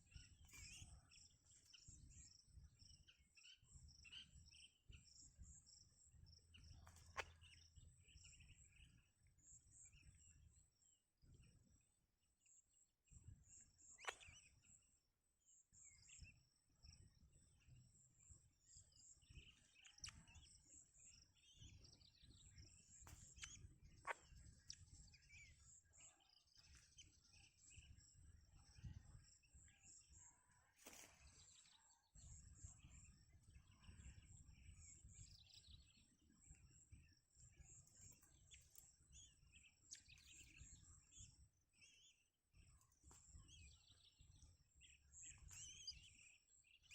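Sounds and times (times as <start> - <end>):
bird chirps and calls: 0.0 - 10.3, 13.9 - 14.6, 18.8 - 46.9.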